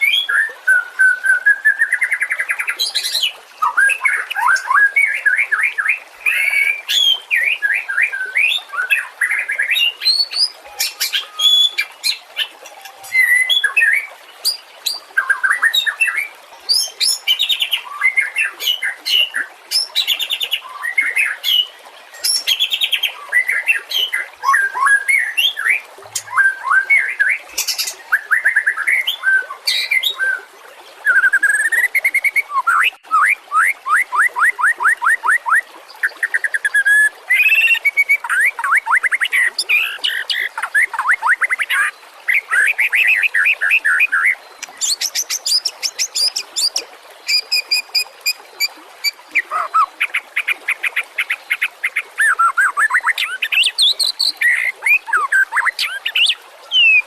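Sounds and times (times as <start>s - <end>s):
songbird singing varied whistled song: 0.0s - 49.9s, 52.2s - 57.0s.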